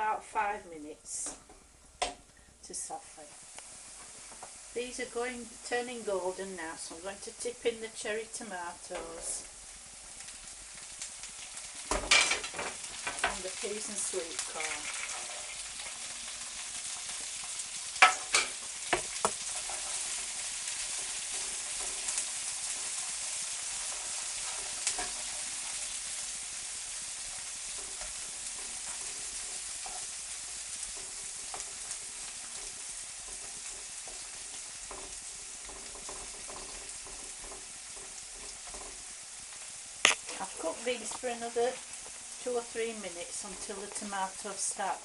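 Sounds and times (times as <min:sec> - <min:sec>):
vegetables sizzling in a frying pan: 0:00.0 - 0:45.0.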